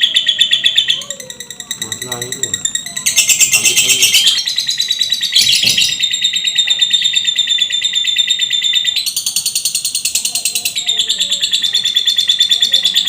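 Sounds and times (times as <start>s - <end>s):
songbird rapid trill: 0.0s - 13.0s.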